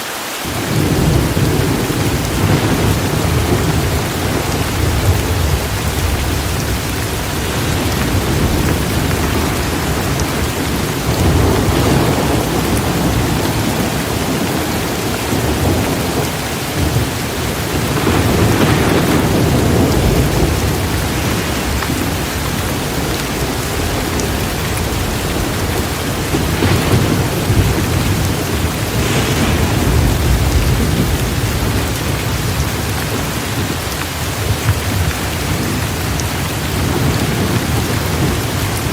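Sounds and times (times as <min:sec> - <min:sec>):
heavy rain pouring: 0:00.0 - 0:38.9
rolling thunder: 0:00.5 - 0:38.9.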